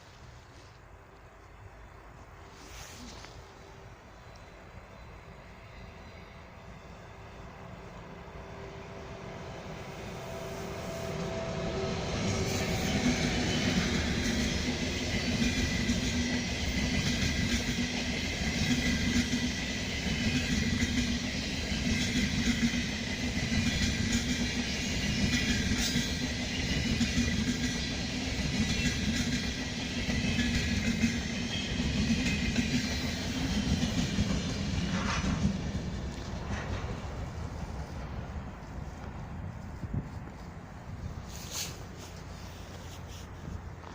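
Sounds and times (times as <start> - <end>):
train wheels rumbling on rails: 2.6 - 43.9.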